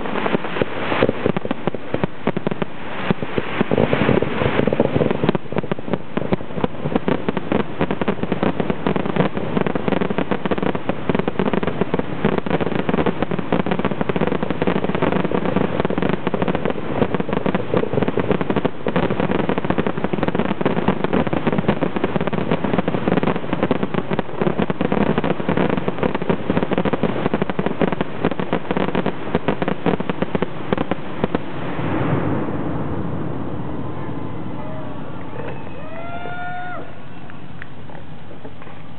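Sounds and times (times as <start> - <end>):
fireworks barrage: 0.0 - 38.9.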